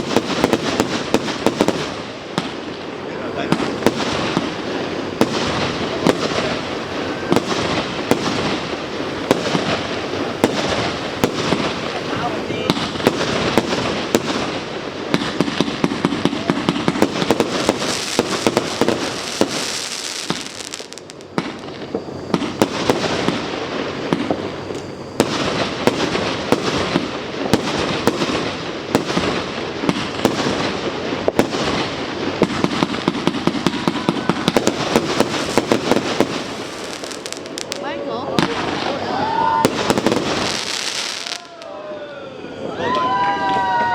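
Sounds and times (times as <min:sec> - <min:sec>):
fireworks crackling and popping: 0:00.0 - 0:42.0, 0:42.6 - 0:43.9.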